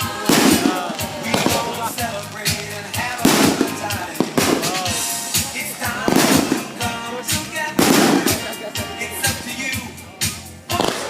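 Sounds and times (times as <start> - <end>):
fireworks crackling bursts: 0.0 - 11.0
music: 0.0 - 11.0.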